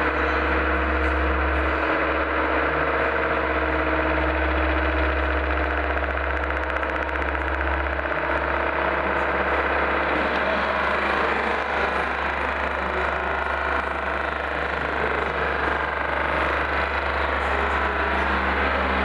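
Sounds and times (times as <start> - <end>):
deep hum: 0.0 - 19.0
dense electronic drone: 0.0 - 19.0.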